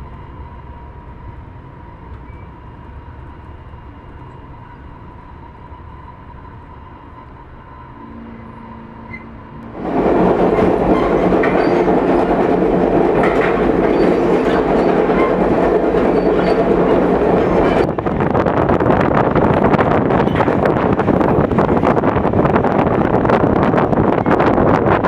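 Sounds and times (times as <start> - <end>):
train wheels running on rails: 0.0 - 25.0.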